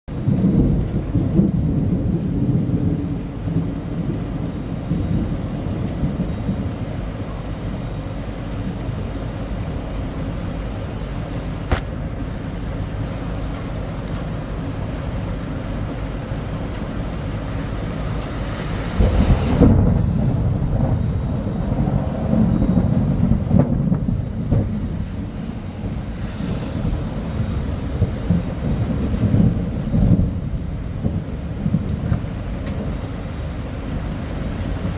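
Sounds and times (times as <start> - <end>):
rain falling: 0.1 - 34.9
low rumble: 0.2 - 34.9.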